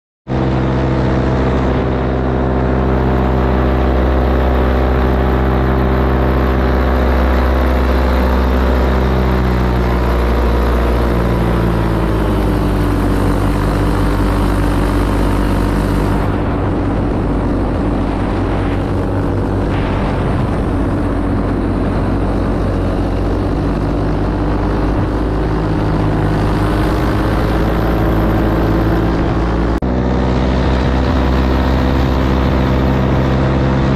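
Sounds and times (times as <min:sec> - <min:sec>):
paramotor engine and propeller: 0:00.3 - 0:33.9
wind rushing past microphone: 0:00.3 - 0:33.9.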